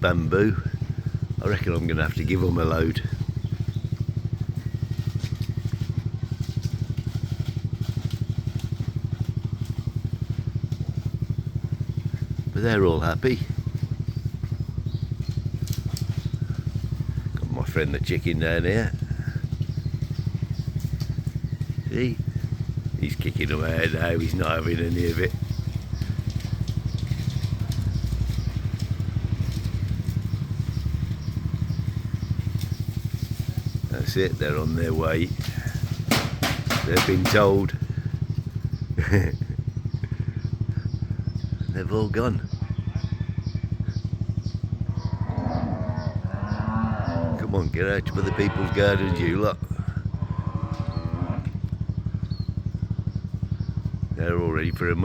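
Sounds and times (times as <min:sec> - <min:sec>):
motorbike engine idling: 0:00.0 - 0:55.0.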